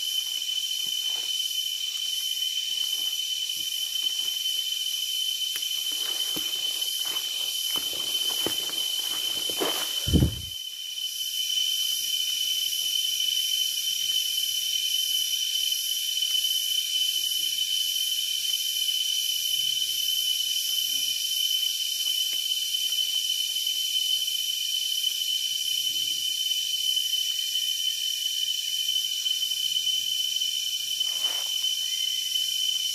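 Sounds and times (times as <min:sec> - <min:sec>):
insect chorus drone: 0:00.0 - 0:32.9.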